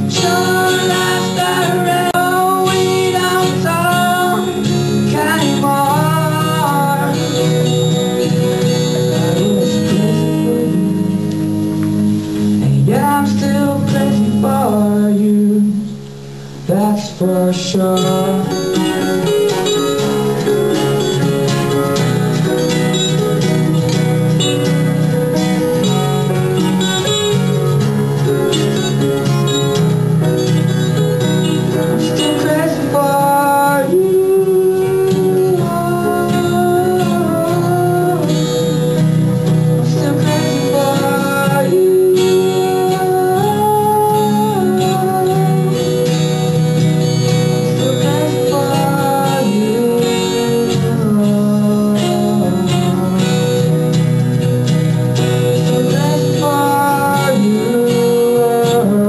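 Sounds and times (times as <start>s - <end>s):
live band playing: 0.0s - 59.0s.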